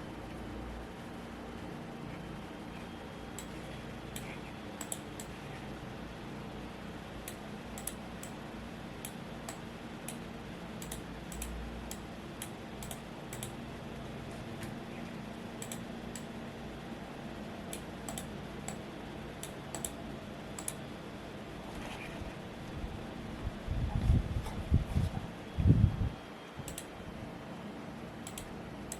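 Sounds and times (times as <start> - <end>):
fan humming: 0.0 - 28.9.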